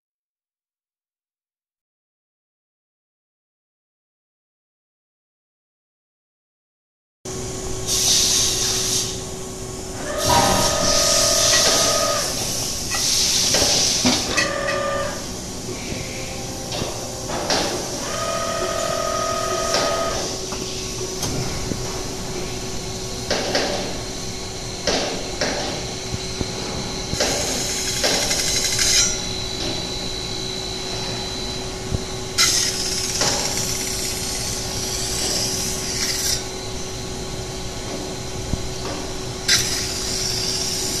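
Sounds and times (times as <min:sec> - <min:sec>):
steady machine hum: 0:07.3 - 0:41.0.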